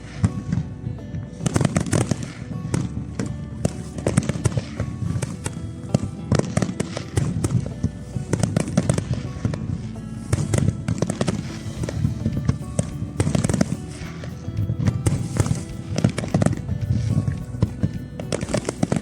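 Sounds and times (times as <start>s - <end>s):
music: 0.0s - 19.0s.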